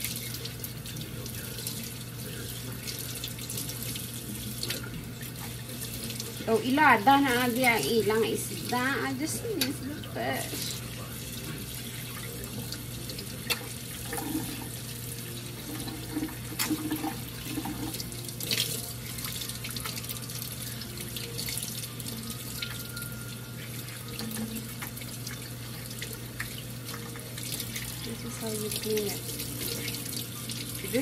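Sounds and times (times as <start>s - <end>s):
faucet running into sink: 0.0s - 31.0s.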